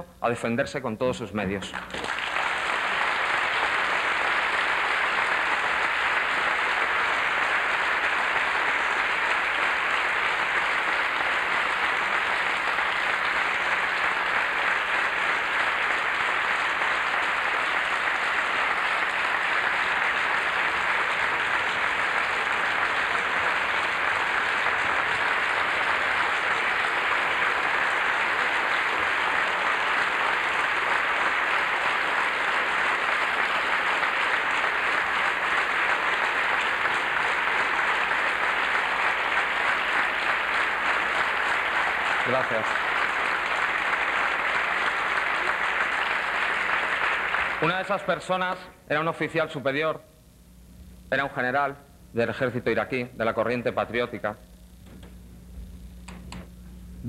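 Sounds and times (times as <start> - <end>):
audience applauding: 1.6 - 48.6.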